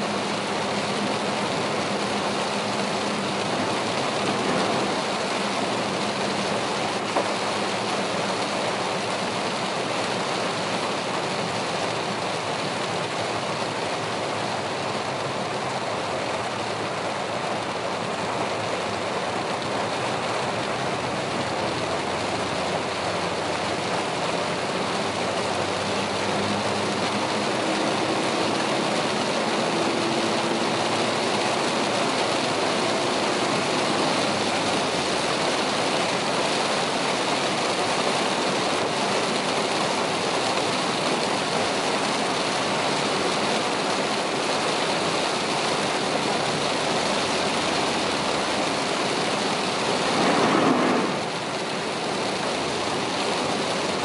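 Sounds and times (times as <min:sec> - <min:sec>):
heavy rain on a car: 0:00.0 - 0:54.0
tyres hissing on wet road: 0:00.0 - 0:54.0.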